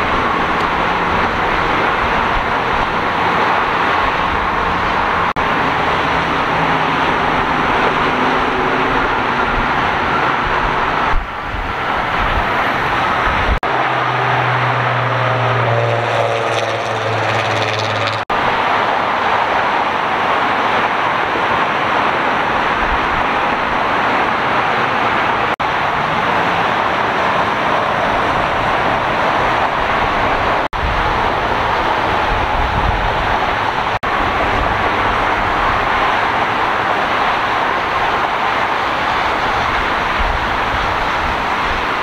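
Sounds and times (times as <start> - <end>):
freeway traffic: 0.0 - 42.0.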